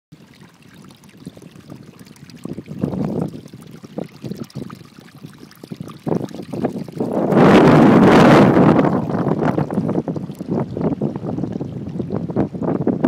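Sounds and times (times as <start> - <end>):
water gurgling through rock: 0.1 - 13.0.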